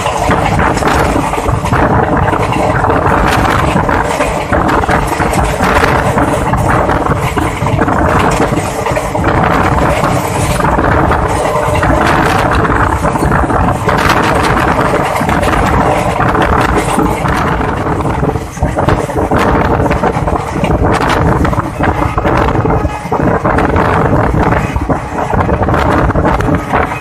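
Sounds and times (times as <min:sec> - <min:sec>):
train coach rumble: 0:00.0 - 0:27.0
wheels clicking on rails: 0:00.0 - 0:27.0
wind on microphone: 0:00.0 - 0:27.0.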